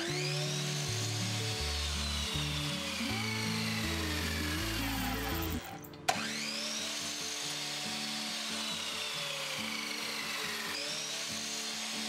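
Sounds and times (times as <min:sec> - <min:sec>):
power tool whine: 0:00.0 - 0:12.0.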